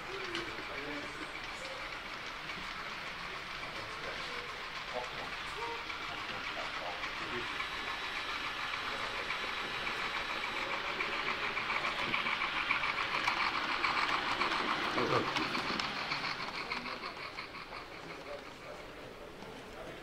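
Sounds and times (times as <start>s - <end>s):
model train rattling on track: 0.0s - 20.0s.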